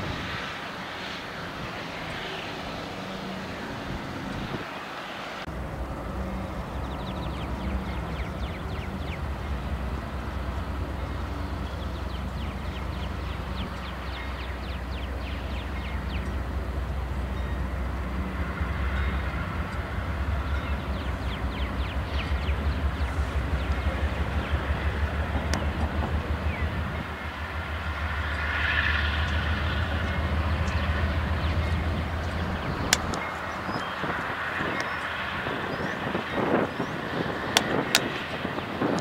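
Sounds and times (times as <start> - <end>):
diesel locomotive engine rumbling: 0.0 - 39.0.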